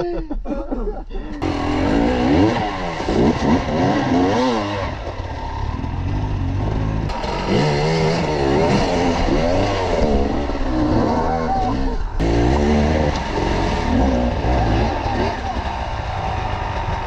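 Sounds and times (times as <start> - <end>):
motorcycle engines revving: 1.3 - 17.0.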